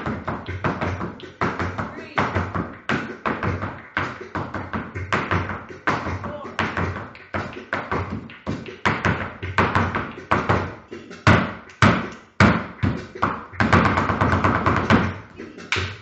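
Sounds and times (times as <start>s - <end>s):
flamenco shoes stamping floor: 0.0s - 16.0s.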